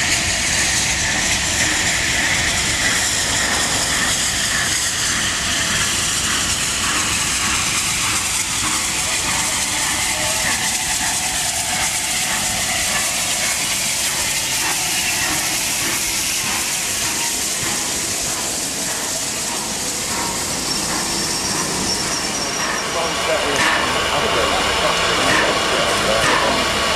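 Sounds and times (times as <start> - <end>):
steam locomotive hissing steam: 0.0 - 26.9.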